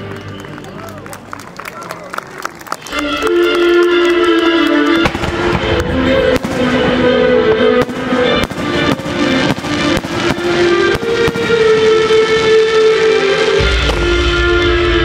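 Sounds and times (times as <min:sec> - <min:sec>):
loud music with long notes: 0:02.9 - 0:15.0.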